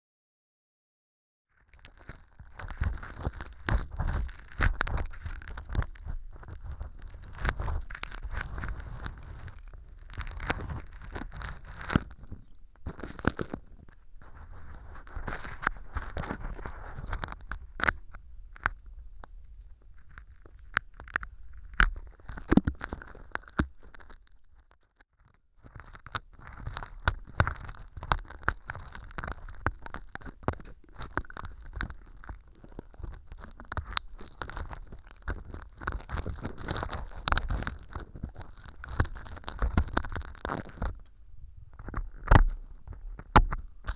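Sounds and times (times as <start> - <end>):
ear pick scraping and crackling: 1.7 - 24.8, 25.6 - 43.9.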